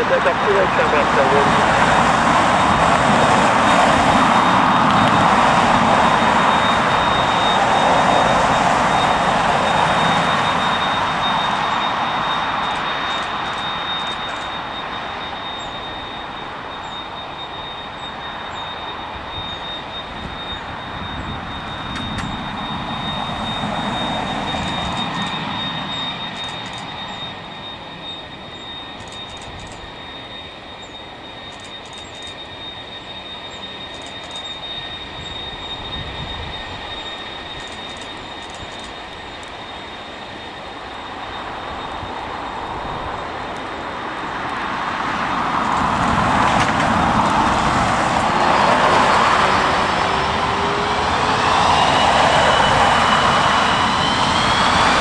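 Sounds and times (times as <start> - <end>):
jet airliner engines: 0.0 - 55.0
rising engine whine: 0.0 - 55.0.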